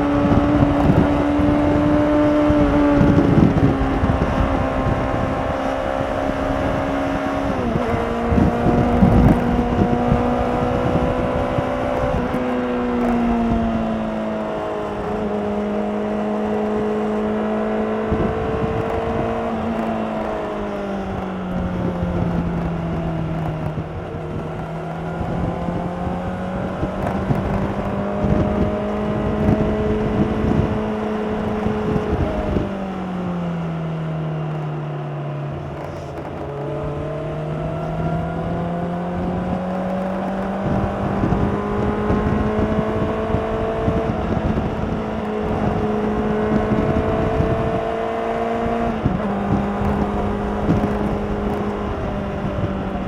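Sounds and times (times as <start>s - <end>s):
motorcycle engine revving: 0.0s - 53.0s
road and wind noise: 0.0s - 53.0s.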